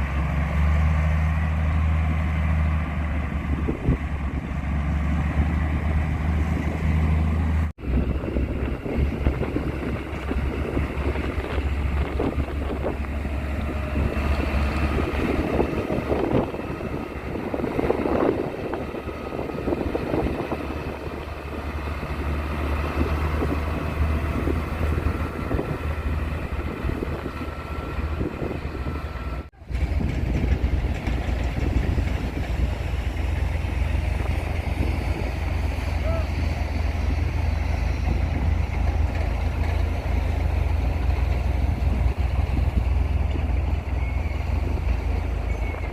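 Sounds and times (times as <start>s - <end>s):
construction machinery rumbling: 0.0s - 45.9s.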